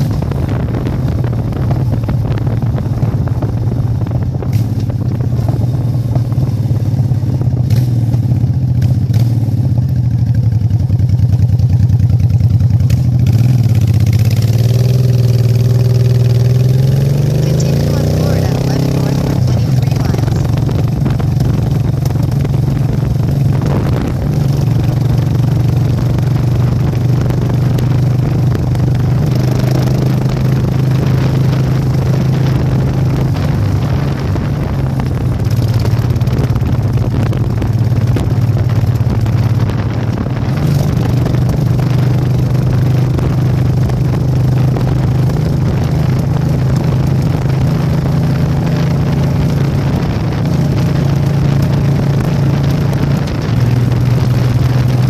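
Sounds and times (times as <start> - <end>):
motorcycle engine droning: 0.0 - 55.0.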